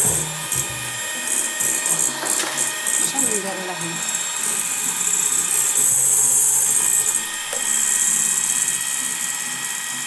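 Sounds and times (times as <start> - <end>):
electric hand mixer whirring: 0.0 - 10.0.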